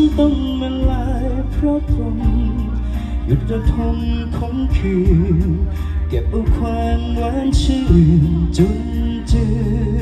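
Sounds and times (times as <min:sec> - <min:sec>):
man singing into a microphone: 0:00.0 - 0:10.0
musical accompaniment: 0:00.0 - 0:10.0.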